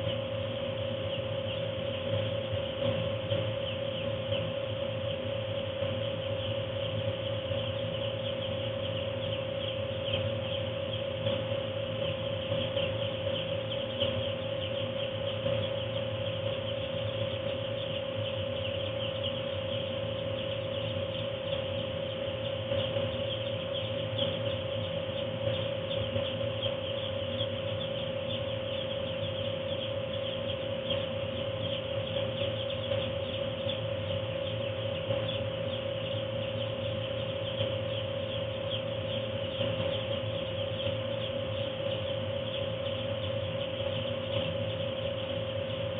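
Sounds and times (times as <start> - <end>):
chicks peeping: 0.0 - 45.9
heating fan hum: 0.0 - 45.9.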